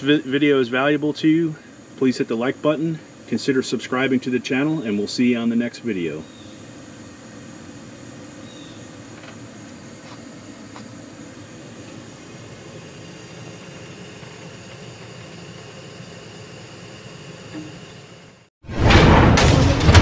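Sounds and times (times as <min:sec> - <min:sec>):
compressed air hissing: 0:01.2 - 0:18.5.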